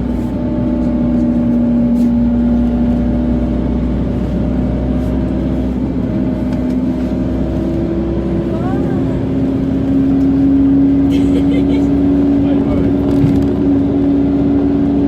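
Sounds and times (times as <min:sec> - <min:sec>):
road rumble: 0:00.0 - 0:15.0
vehicle engine running: 0:00.0 - 0:15.0.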